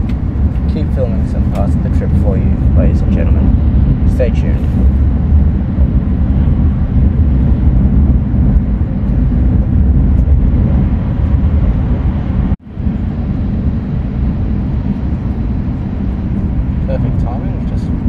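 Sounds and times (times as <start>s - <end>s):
train cabin rumble and rushing: 0.0s - 18.0s.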